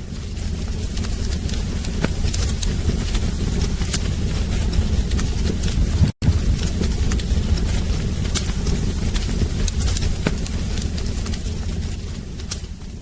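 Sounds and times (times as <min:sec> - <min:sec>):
fire crackling and popping: 0:00.0 - 0:13.0
fire low rumble: 0:00.0 - 0:13.0.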